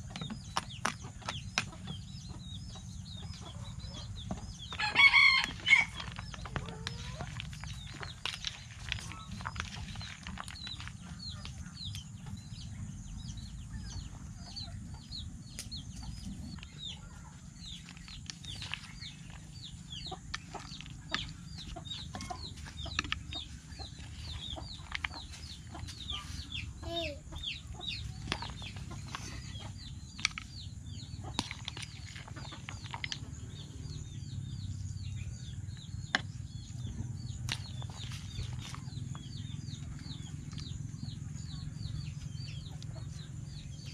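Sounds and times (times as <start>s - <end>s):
chicks peeping: 0.0s - 43.9s.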